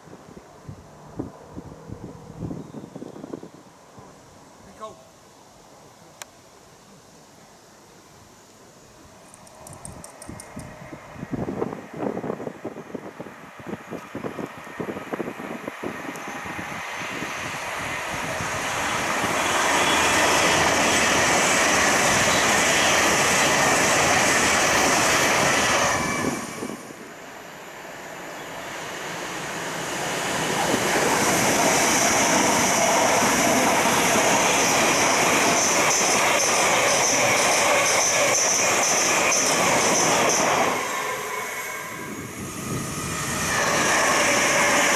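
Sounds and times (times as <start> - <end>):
passenger train rushing past: 0.0 - 4.6, 9.0 - 44.9.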